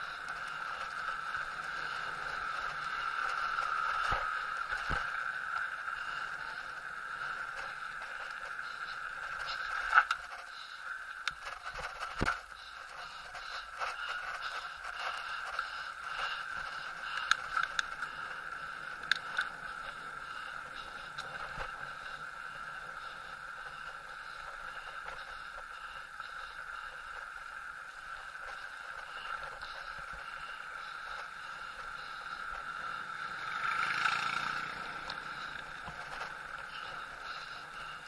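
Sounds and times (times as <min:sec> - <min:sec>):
bicycle whirring hum: 0:00.0 - 0:38.0.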